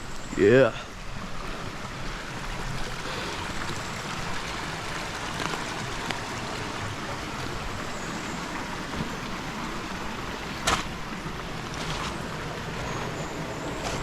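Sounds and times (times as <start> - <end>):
river water flowing: 0.0 - 14.0.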